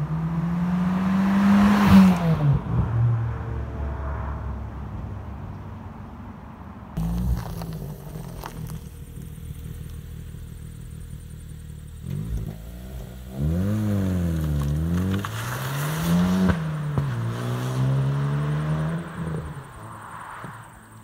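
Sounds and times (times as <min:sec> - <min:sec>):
car engine accelerating: 0:00.0 - 0:04.7, 0:07.0 - 0:21.0.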